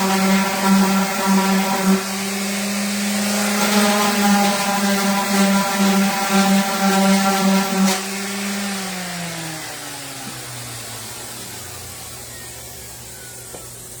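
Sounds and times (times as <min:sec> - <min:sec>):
motor winding down: 0:00.0 - 0:14.0
orbital sander pulsing hum: 0:00.0 - 0:14.0.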